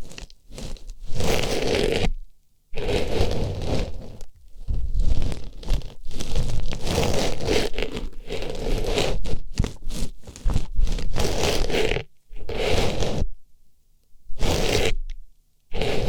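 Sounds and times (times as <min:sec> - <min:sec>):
artificial flower scraping and rustling: 0:00.0 - 0:13.3, 0:14.3 - 0:16.0.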